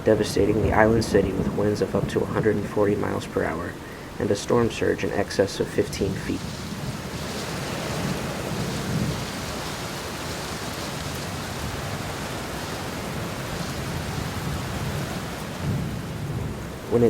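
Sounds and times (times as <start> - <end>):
heavy rain hiss: 0.0 - 17.0
low rolling thunder: 0.0 - 17.0.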